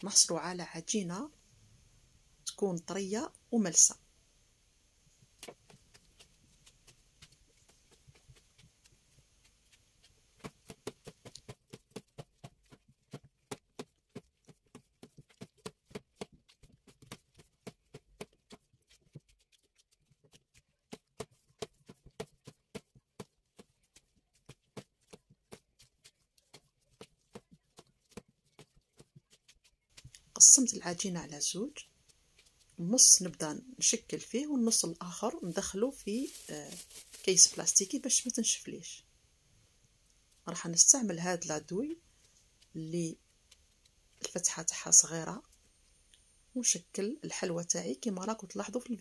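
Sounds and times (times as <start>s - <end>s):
hands kneading dough: 5.0s - 38.7s, 40.0s - 49.0s.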